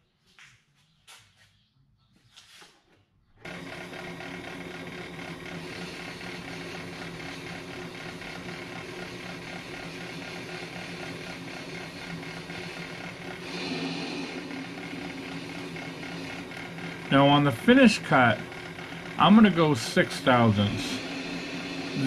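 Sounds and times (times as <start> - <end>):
lathe motor humming: 3.4 - 22.0.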